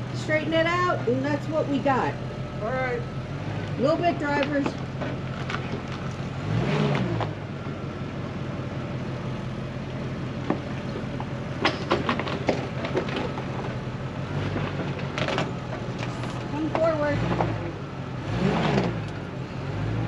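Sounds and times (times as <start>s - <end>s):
car engine at low revs: 0.0s - 20.0s.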